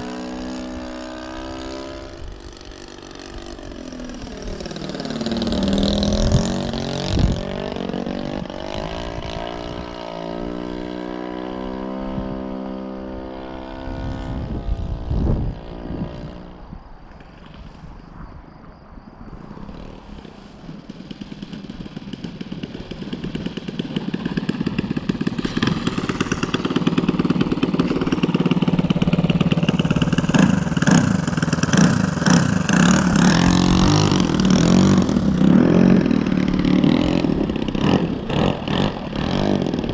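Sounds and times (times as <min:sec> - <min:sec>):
model plane engine: 0:00.0 - 0:18.1, 0:19.3 - 0:39.9.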